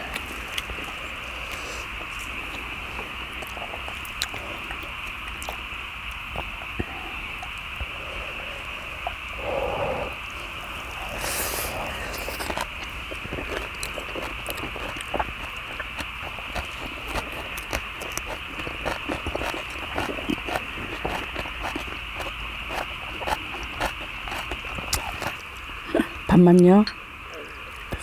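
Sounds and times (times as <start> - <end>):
mouths chewing wetly: 0.0 - 26.3
steady high hum: 0.0 - 28.0.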